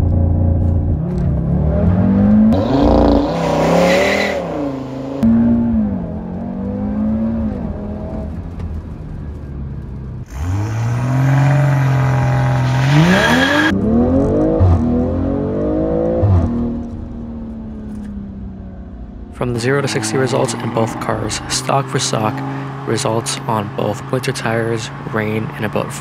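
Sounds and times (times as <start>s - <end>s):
sports car engine accelerating: 0.0s - 26.0s.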